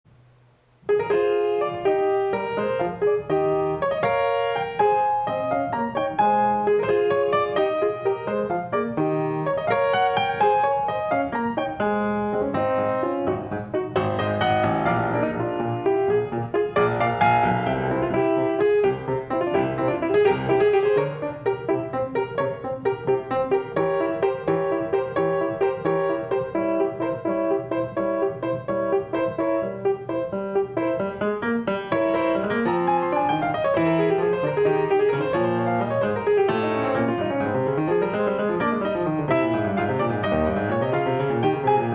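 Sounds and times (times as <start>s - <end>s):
piano playing quick notes and chords: 0.2s - 41.9s.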